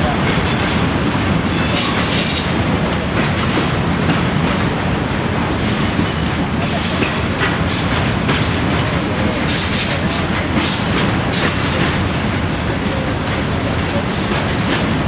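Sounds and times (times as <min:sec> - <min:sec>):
clickety-clack over rail joints: 0:00.0 - 0:15.0
train wheels rumbling on rails: 0:00.0 - 0:15.0.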